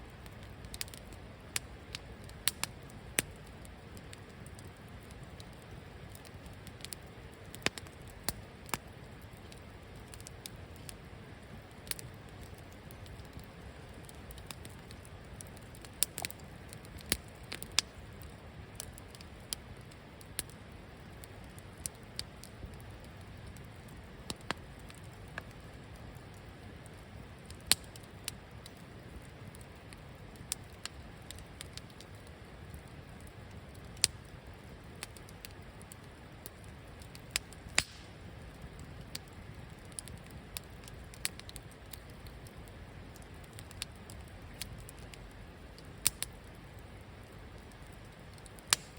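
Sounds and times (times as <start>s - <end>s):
campfire crackling and popping: 0.0s - 48.9s.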